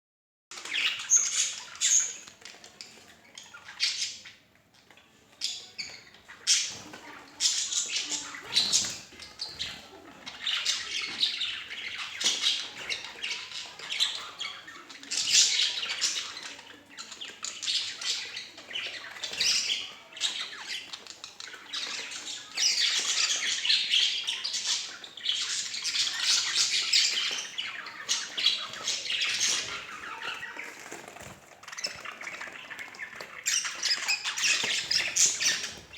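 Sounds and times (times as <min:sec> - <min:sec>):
budgerigars chattering: 0:05.5 - 0:35.9.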